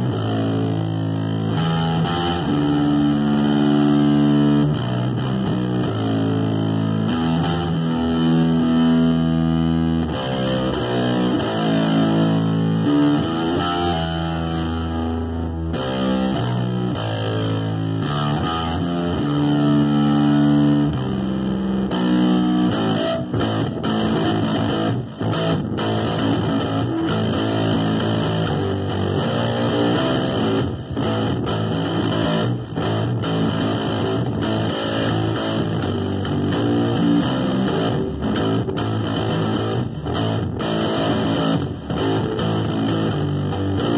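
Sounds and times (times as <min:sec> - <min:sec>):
distorted electric bass guitar: 0:00.0 - 0:43.9.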